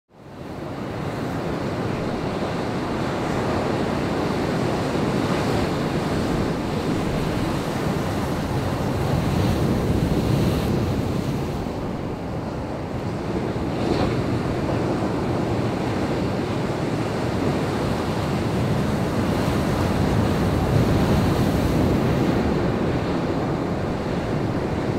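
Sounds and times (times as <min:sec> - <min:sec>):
surf breaking on a beach: 0:00.2 - 0:24.9.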